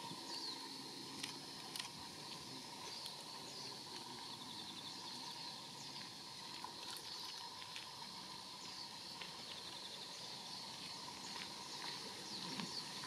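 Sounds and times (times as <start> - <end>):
insects buzzing: 0.0 - 13.0
songbirds chirping: 0.0 - 13.0.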